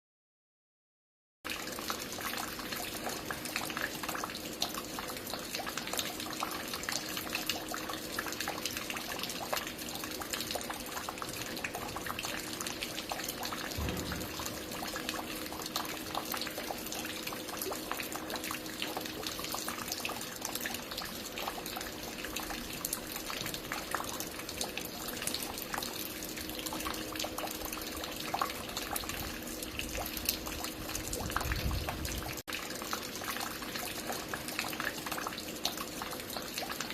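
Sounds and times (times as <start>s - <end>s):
water dripping and splashing: 1.5s - 36.9s.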